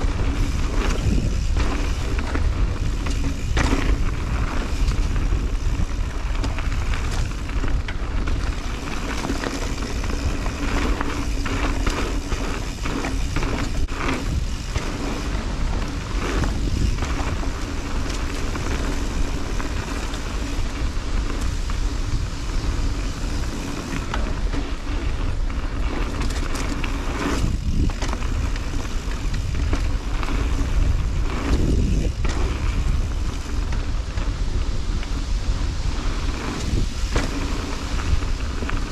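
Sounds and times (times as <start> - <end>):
bike knocks and rattles: 0.0 - 35.2, 36.1 - 38.9
bike tyres rolling on dirt: 0.0 - 38.9
wind rumble on microphone: 0.0 - 38.9.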